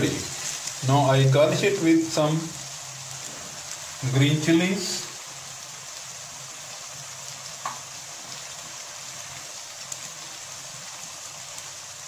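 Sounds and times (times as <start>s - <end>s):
curry sizzling in oil: 0.0s - 12.0s.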